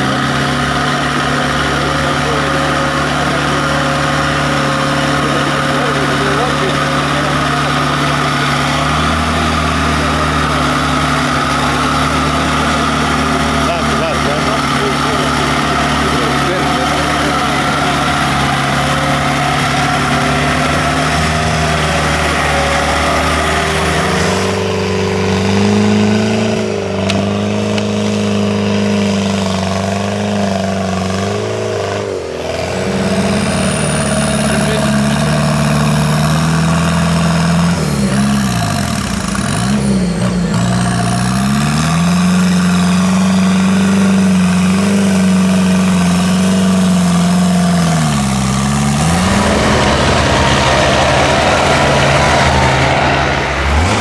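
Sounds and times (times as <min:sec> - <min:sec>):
engine revving under load: 0:00.0 - 0:54.0.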